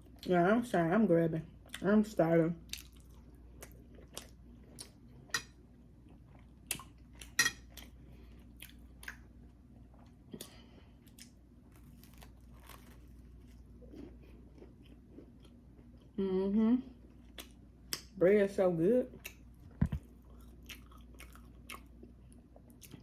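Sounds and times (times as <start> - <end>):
chewing food with crunches: 2.6 - 16.2, 17.0 - 18.2, 19.1 - 23.0.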